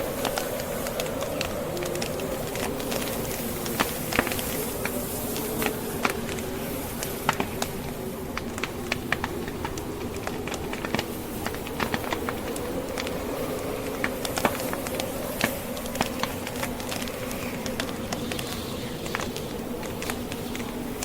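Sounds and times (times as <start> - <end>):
howling snowstorm wind: 0.0 - 21.0
wood fire crackling and popping: 0.0 - 21.0.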